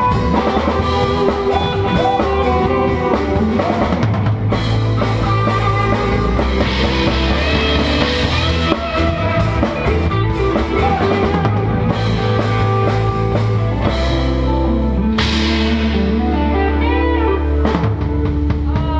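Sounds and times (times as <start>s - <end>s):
drum kit: 0.0s - 18.9s
guitar: 0.0s - 18.9s
live rock band: 0.0s - 18.9s
low bass notes: 0.0s - 18.9s.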